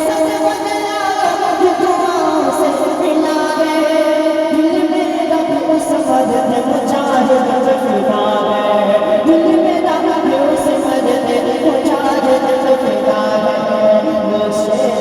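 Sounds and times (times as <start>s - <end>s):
person singing chant-like notes: 0.0s - 15.0s.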